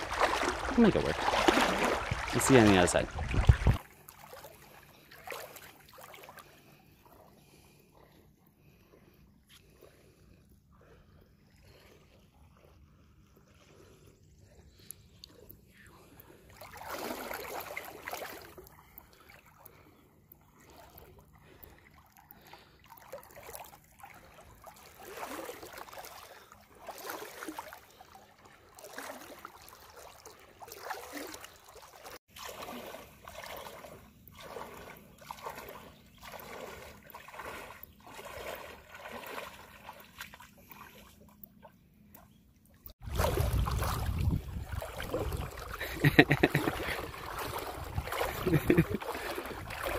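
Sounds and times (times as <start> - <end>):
wading through shallow water: 0.0 - 49.9.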